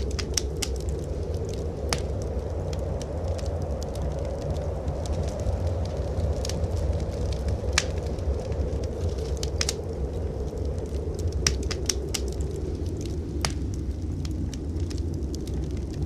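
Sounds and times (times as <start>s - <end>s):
blizzard wind rumble: 0.0s - 16.0s
wood fire crackling and popping: 0.0s - 16.0s.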